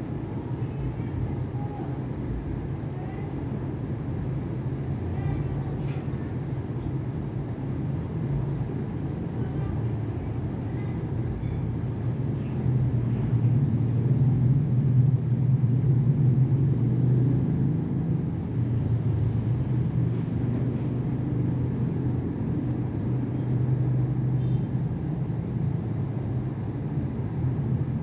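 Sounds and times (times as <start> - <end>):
air rushing from fan blades: 0.0 - 28.0.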